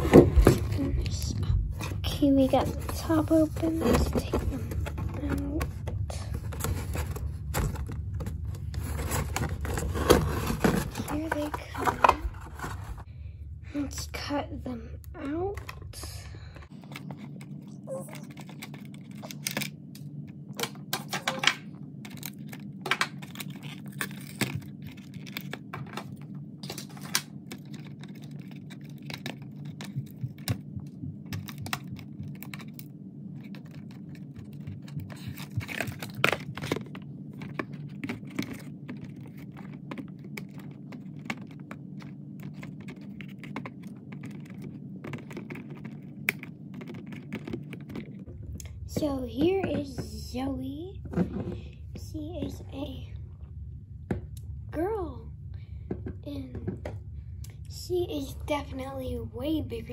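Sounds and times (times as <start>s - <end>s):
plastic and cardboard rustling: 0.0s - 13.1s, 15.2s - 53.2s
steady low hum: 0.0s - 59.9s.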